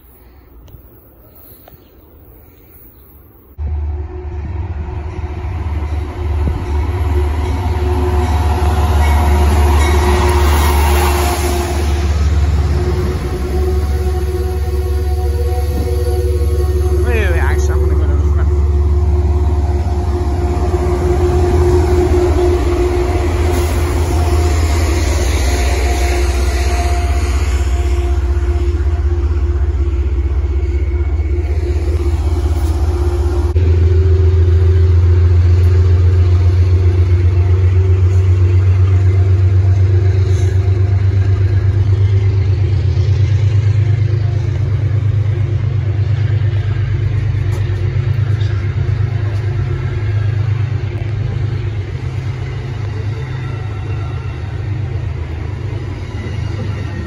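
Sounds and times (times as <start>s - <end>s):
passenger train rumbling past: 0.0s - 57.0s
humming tone: 3.6s - 57.0s.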